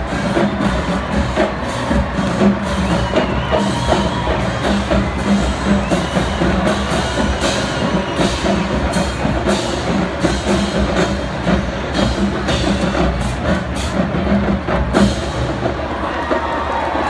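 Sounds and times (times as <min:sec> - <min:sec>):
drums striking a beat: 0:00.0 - 0:17.0
marching band playing: 0:00.0 - 0:17.0.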